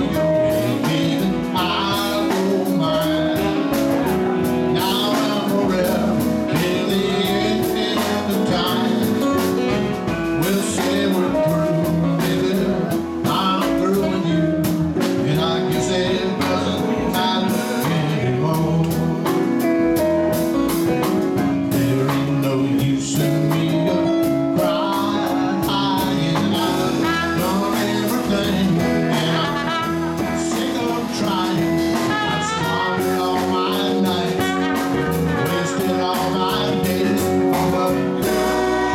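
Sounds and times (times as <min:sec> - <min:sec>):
blues band playing: 0:00.0 - 0:38.9
saxophone: 0:00.0 - 0:38.9.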